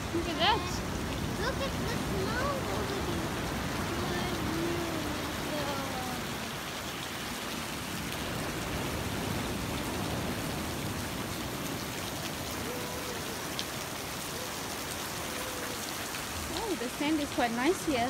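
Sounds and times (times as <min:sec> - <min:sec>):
water dripping onto sand: 0:01.2 - 0:18.0.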